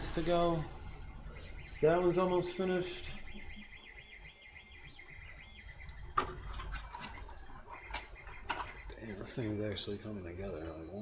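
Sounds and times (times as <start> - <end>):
stepper motors chirping: 0.0 - 11.0.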